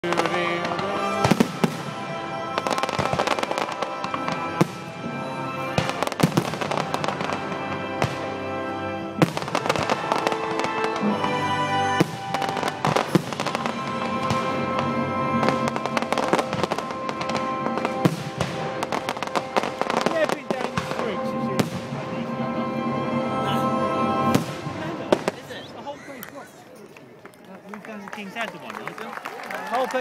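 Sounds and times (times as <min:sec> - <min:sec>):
fireworks bangs: 0:00.0 - 0:22.7, 0:23.6 - 0:26.0
music playing: 0:00.0 - 0:25.8.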